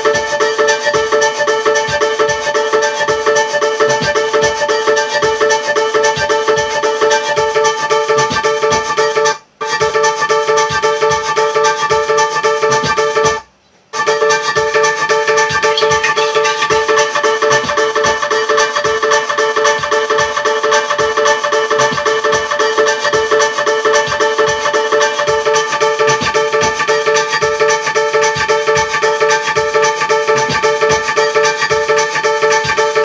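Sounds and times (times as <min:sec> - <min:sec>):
instrumental music with plucked notes: 0:00.0 - 0:33.0.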